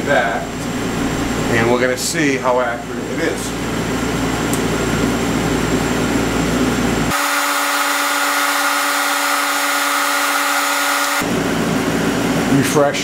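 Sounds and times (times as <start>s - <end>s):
machinery humming: 0.0s - 12.5s
steady whine of held tones: 0.0s - 12.8s.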